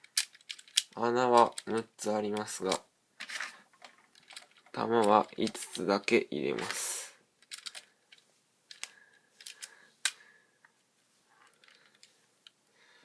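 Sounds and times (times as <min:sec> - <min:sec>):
faint handling noise: 0:00.0 - 0:12.7.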